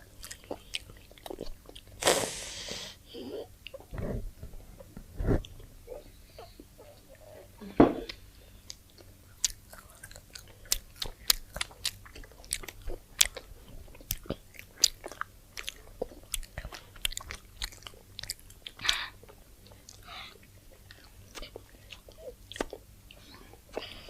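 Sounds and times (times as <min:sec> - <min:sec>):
chewing crunchy food: 0:00.0 - 0:02.0, 0:03.1 - 0:24.0.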